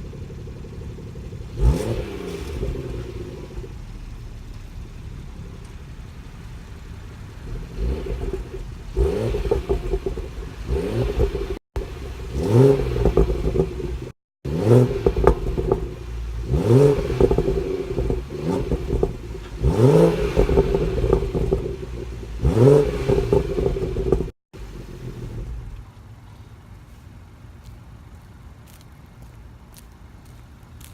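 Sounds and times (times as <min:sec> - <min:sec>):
car engine revving: 0:00.0 - 0:25.9
exhaust pops and crackles: 0:00.0 - 0:26.6.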